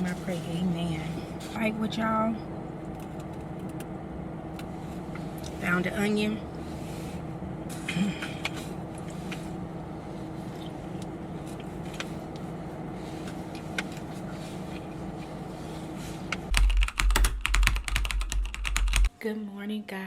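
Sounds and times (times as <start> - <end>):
car engine running: 0.0 - 19.1.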